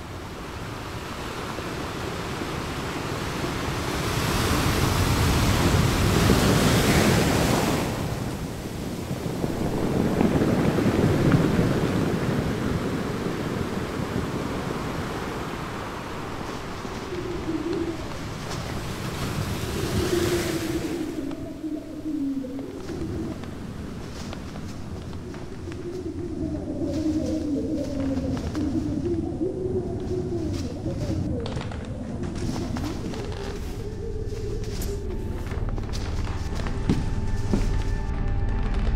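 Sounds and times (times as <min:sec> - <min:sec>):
sea waves surging: 0:00.0 - 0:36.6.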